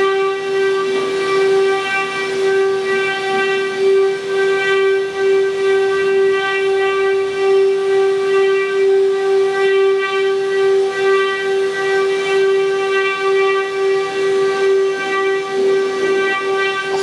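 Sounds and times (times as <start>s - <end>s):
cnc router spindles whining: 0.0s - 17.0s.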